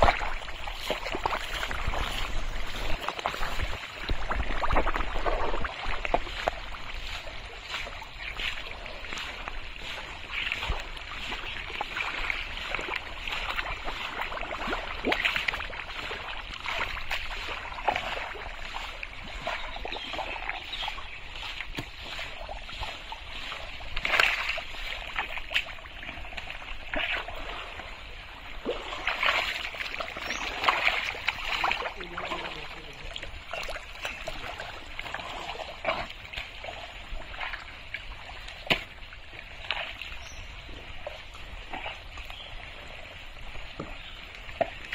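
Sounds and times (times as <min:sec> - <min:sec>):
sloshing and splashing through mud: 0:00.0 - 0:44.9.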